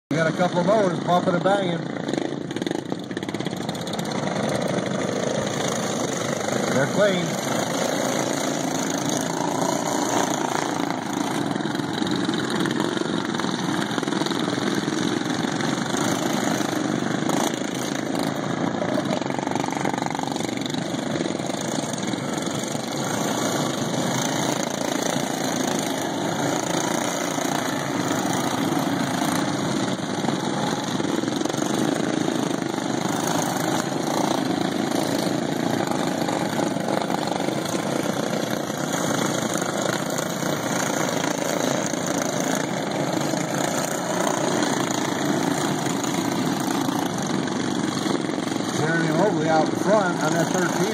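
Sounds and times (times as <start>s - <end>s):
lawn mower engines droning: 0.1s - 50.9s.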